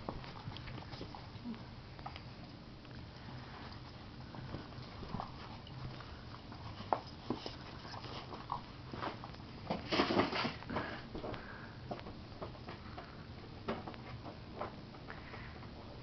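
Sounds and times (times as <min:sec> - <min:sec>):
puppies scuffling: 0:00.0 - 0:15.1.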